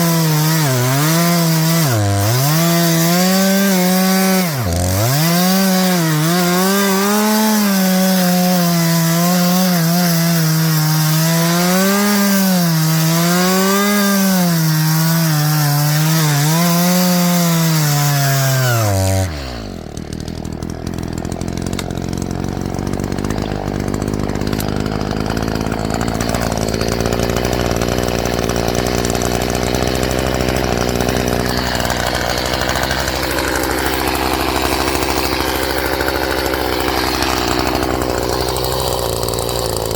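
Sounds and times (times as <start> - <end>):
chainsaw idling: 0.0 - 39.9
chainsaw sawing wood: 0.0 - 39.9.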